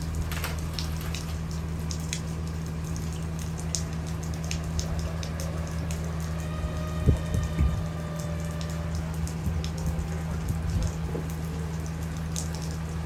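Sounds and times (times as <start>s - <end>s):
bus engine idling hum: 0.0s - 13.0s
rain drips and taps: 0.0s - 13.0s.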